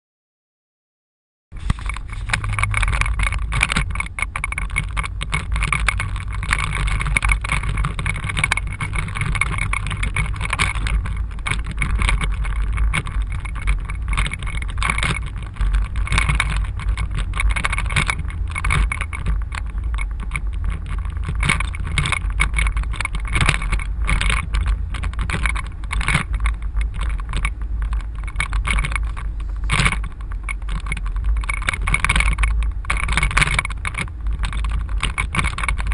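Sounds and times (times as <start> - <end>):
engine and tyre rumble: 1.5 - 35.9
small irregular crackles: 1.5 - 35.9.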